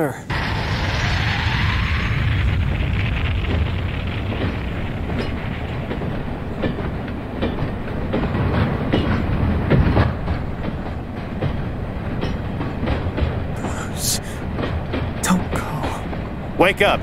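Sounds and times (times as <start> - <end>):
train rumbling along rails: 0.3 - 17.0
wheels clacking over track: 1.4 - 17.0.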